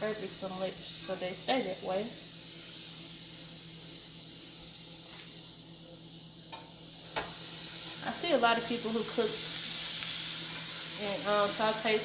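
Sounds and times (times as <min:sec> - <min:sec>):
butter sizzling in a skillet: 0:00.0 - 0:12.0.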